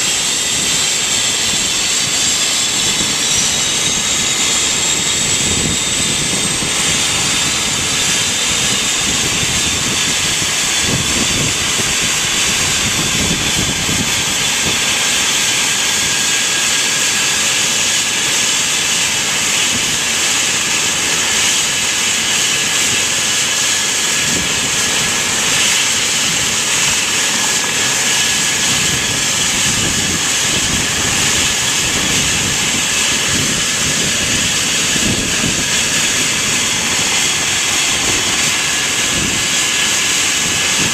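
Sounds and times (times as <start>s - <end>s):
helicopter turbine whine: 0.0s - 40.9s
loud steady hiss: 0.0s - 40.9s.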